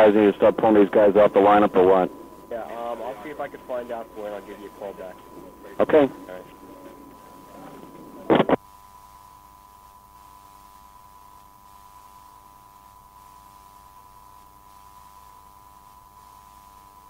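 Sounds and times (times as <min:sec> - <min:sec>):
electrical hum on phone line: 0:00.0 - 0:17.0.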